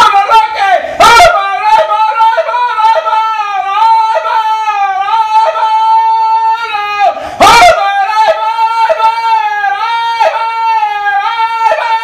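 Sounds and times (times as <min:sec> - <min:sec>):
falsetto yodel-like cry: 0:00.0 - 0:12.0.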